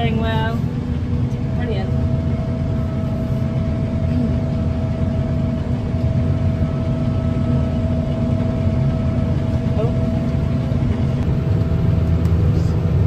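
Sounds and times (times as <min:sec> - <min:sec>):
combine harvester engine drone: 0:00.0 - 0:13.0
thin steady whine: 0:00.0 - 0:13.0.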